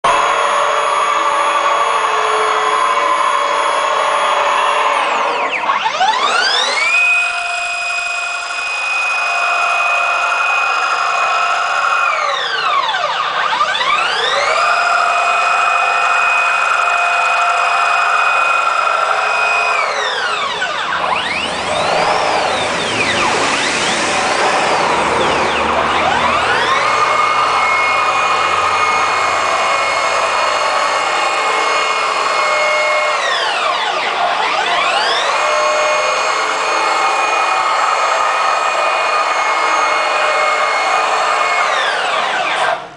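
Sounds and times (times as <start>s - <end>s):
stepper motors whining: 0.0s - 42.9s.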